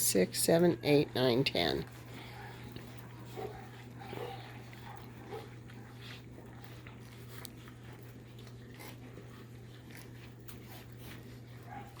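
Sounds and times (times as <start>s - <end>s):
puppies smacking and lapping: 0.0s - 12.0s
steady low hum: 0.0s - 12.0s.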